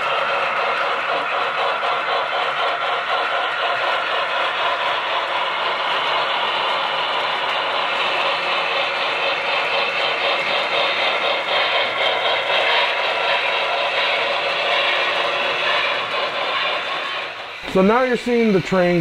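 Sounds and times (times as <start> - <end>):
locomotive motor whir: 0.0 - 19.0
model train wheels clattering: 0.0 - 19.0.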